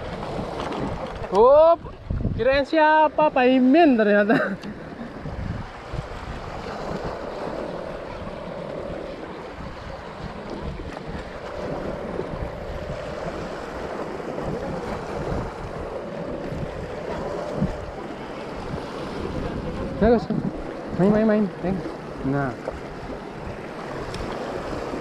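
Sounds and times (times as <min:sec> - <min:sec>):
waves washing against rocks: 0:00.0 - 0:25.0
wind buffeting microphone: 0:00.0 - 0:25.0.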